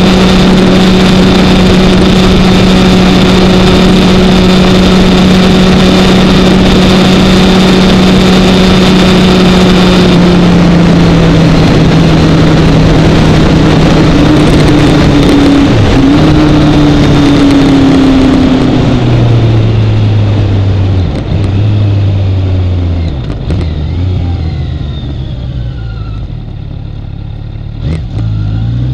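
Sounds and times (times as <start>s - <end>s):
heavy wind noise: 0.0s - 26.4s
motorcycle engine: 0.0s - 28.9s.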